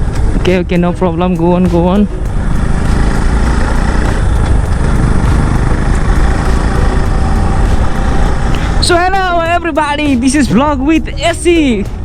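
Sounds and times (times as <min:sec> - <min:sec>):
dense low rumble: 0:00.0 - 0:12.0
motorcycle engine running: 0:00.0 - 0:12.0.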